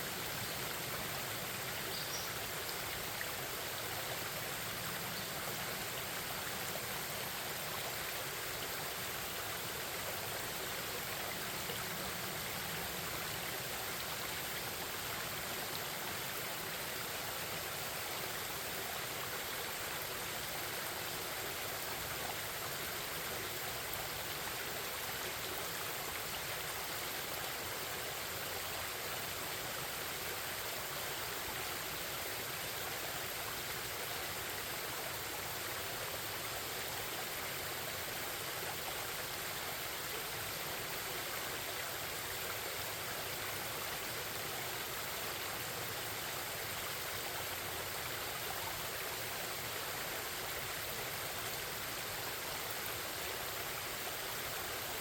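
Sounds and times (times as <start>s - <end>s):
babbling forest stream: 0.0s - 55.0s.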